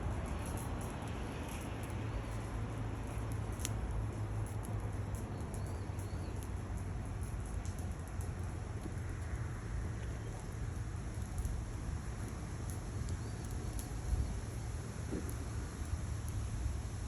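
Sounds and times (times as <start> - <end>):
firewood crackling and popping: 0.0 - 17.0
steady low rumble: 0.0 - 17.0.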